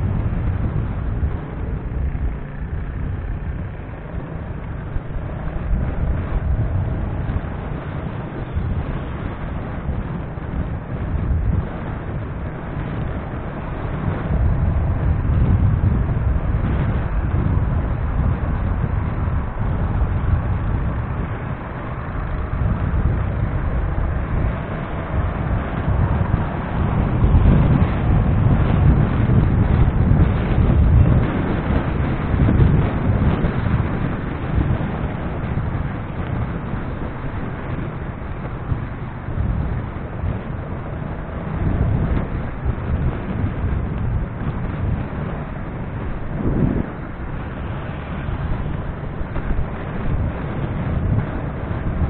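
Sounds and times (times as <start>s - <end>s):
road and traffic noise: 0.0s - 52.0s
wind rumbling on microphone: 0.0s - 52.0s.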